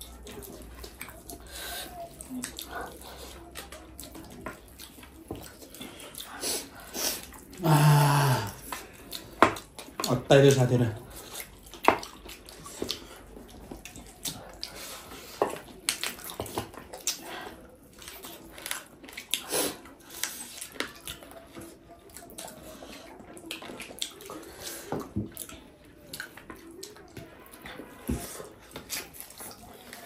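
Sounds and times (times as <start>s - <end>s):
chewing and mouth smacking: 0.0s - 7.7s, 8.4s - 30.0s.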